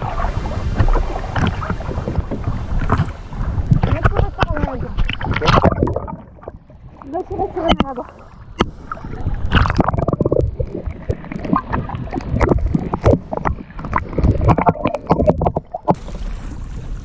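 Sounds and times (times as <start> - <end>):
muffled underwater bubbling: 0.0 - 16.2
knocks and splashes: 0.0 - 17.0
water sloshing and gurgling: 0.0 - 17.0.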